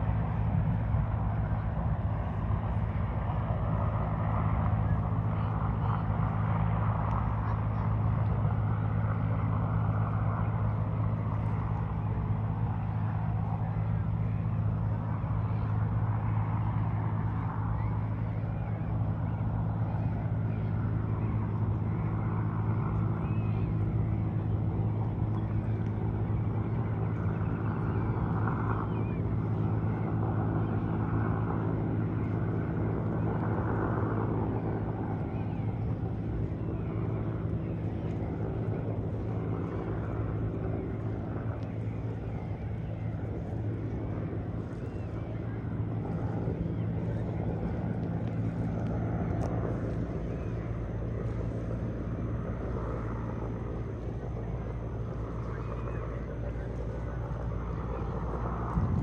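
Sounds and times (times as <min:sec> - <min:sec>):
helicopter flying: 0:00.0 - 0:59.0.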